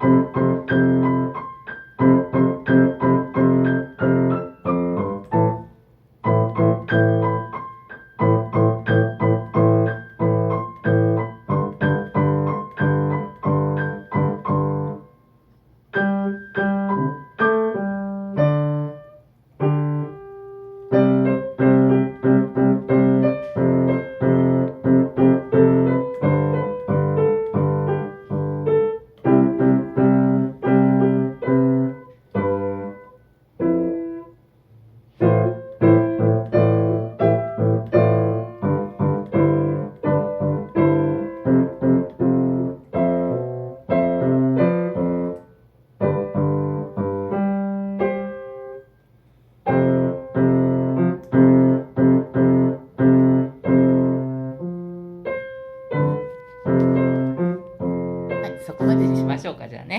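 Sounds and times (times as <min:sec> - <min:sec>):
solo piano playing: 0:00.0 - 0:59.6.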